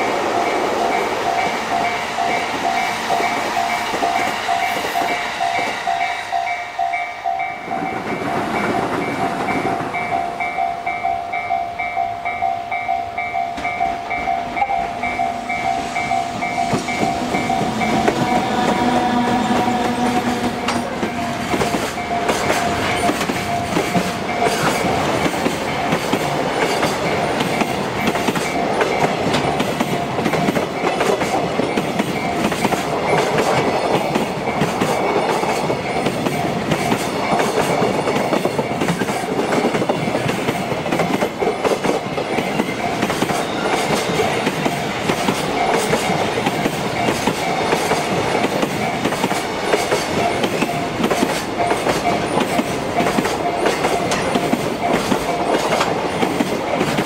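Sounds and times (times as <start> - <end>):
crossing warning bell ringing: 0.0 - 57.0
train wheels clacking on rails: 0.0 - 57.0.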